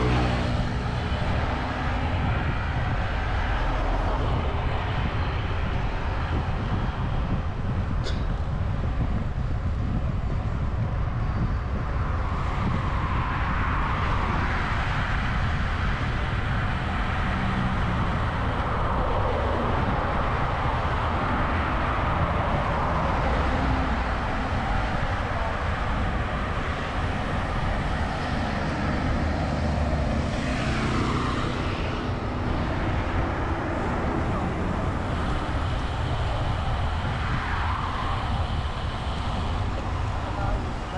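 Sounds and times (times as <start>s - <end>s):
road noise low rumble: 0.0s - 40.9s
traffic noise: 0.0s - 40.9s
wind noise: 0.0s - 40.9s.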